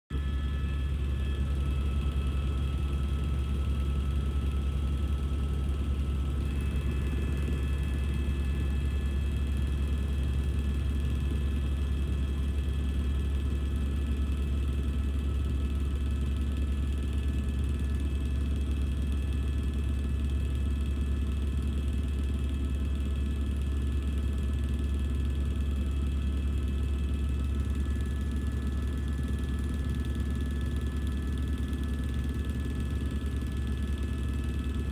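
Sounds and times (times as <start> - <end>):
turbine whine: 0.1 - 21.0, 25.2 - 34.9
helicopter rotor drone: 0.1 - 34.9.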